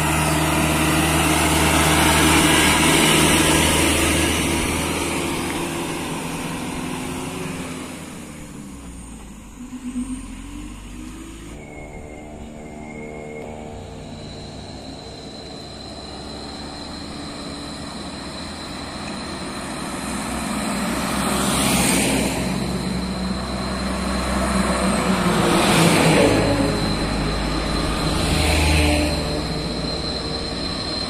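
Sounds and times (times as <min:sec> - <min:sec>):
truck and car engines under load: 0:00.0 - 0:31.0
vehicles passing close by: 0:00.0 - 0:31.0.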